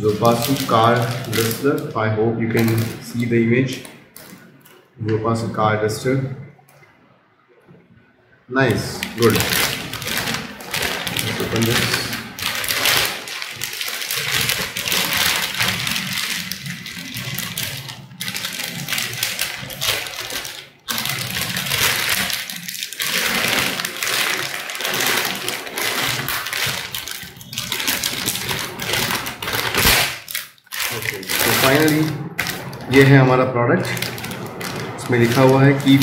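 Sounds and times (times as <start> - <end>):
plastic packaging crinkling: 0.0 - 4.9, 8.6 - 36.0.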